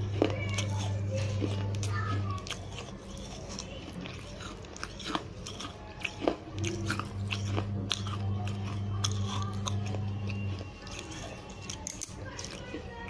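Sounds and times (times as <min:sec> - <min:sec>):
low steady hum: 0:00.0 - 0:13.0
mouth chewing crunchy paste: 0:00.0 - 0:13.0.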